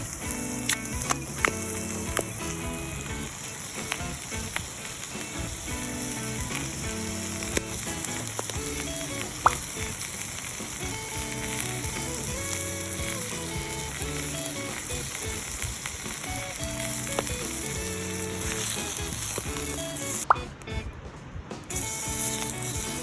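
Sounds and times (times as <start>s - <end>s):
food sizzling over campfire: 0.0s - 20.4s, 21.7s - 23.0s
fire pops: 0.0s - 23.0s
light background music: 0.0s - 23.0s.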